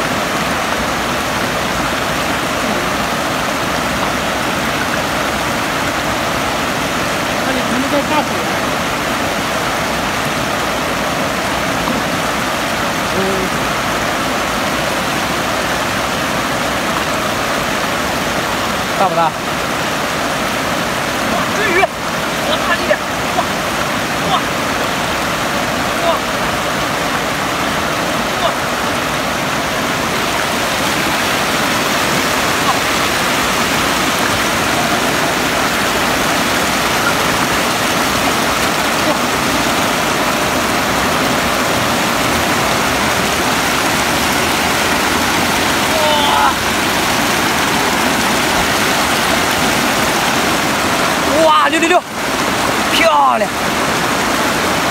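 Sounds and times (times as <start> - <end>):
river water pouring over weir: 0.0 - 54.9.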